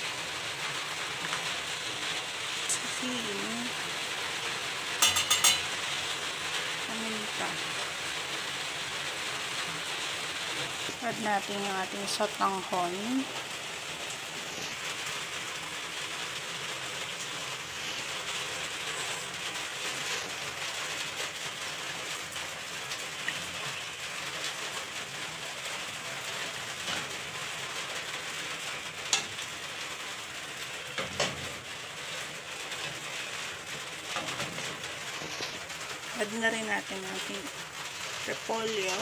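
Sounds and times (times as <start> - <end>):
broth boiling in a pot: 0.0 - 39.0.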